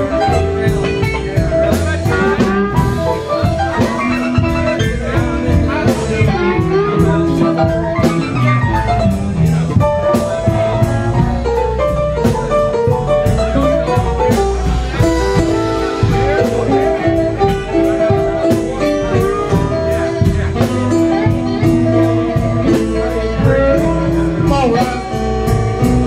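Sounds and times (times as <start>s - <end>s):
drum kit: 0.0s - 26.0s
electric guitar: 0.0s - 26.0s
electric keyboard: 0.0s - 26.0s
electric upright bass: 0.0s - 26.0s.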